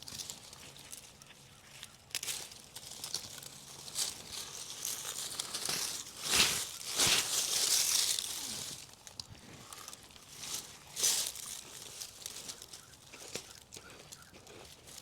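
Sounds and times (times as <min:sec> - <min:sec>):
digging in garden soil: 0:00.0 - 0:15.0
earth and plants rustling: 0:00.0 - 0:15.0.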